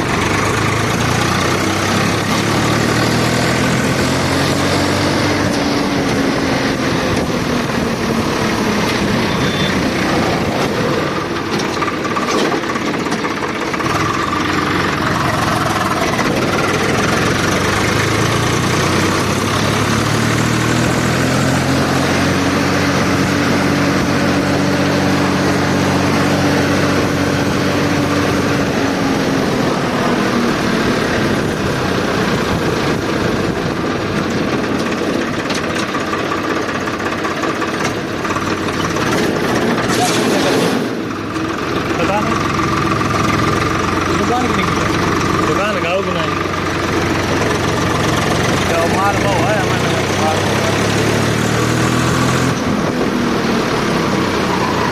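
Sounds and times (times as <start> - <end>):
tractor engine revving: 0.0 - 54.9.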